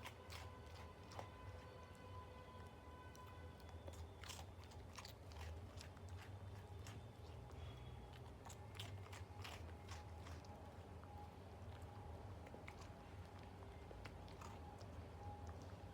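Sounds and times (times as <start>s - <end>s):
dog crunching a treat: 0.0s - 15.9s.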